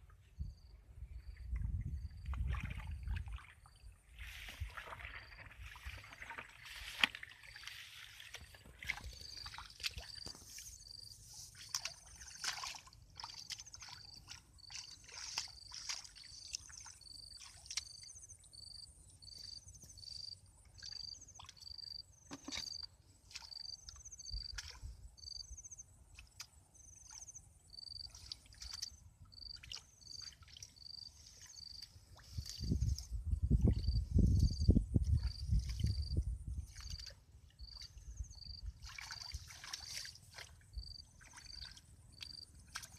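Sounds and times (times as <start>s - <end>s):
water sloshing and splashing: 1.1s - 25.4s, 26.0s - 42.9s.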